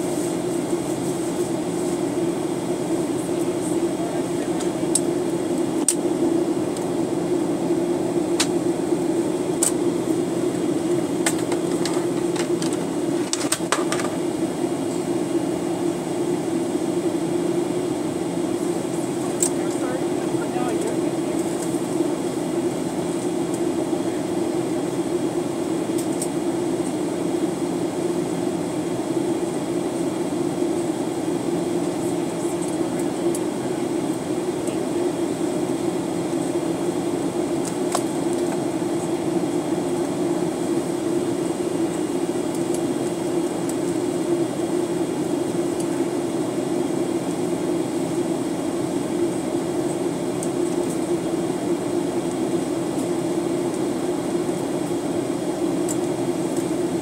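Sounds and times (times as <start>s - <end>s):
airplane cabin engine hum: 0.0s - 57.0s.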